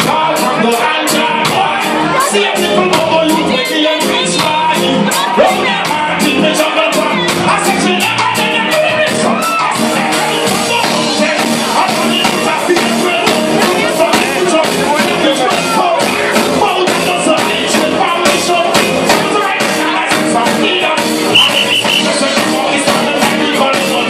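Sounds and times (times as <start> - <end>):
reggae music with singing: 0.0 - 24.0.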